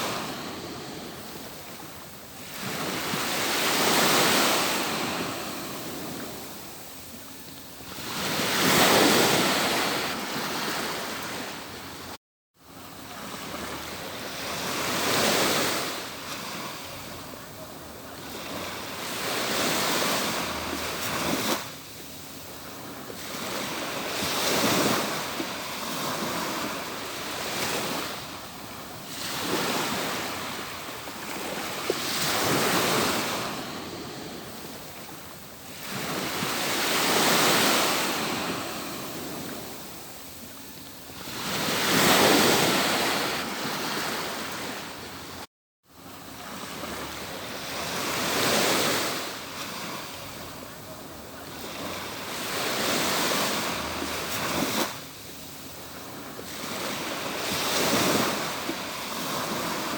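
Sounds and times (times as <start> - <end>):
ocean waves on a beach: 0.0 - 59.9.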